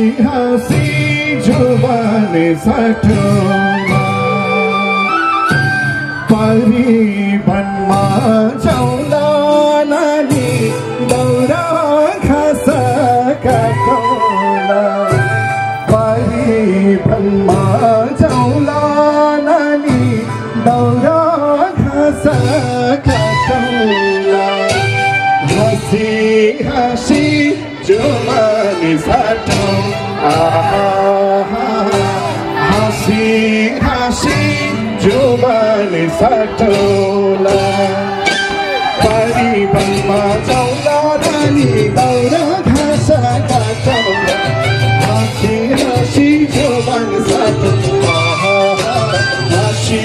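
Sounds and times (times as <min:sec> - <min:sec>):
folk song singing: 0:00.0 - 0:50.0
instrumental backing with steady beat: 0:00.0 - 0:50.0.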